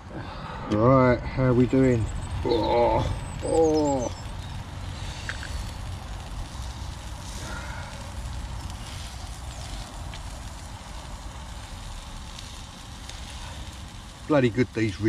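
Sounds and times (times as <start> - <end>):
gas stove burning: 0.0 - 15.0.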